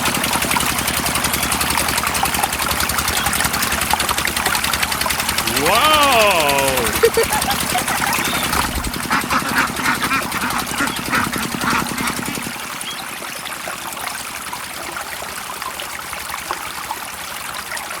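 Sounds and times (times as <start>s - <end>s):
small water pump engine ticking: 0.0s - 6.0s, 6.9s - 18.0s.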